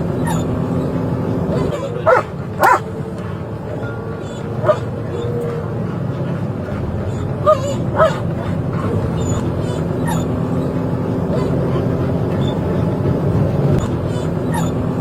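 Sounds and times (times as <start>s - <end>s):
vehicle rumble: 0.0s - 15.0s
dog yelping: 0.2s - 13.0s, 13.8s - 15.0s.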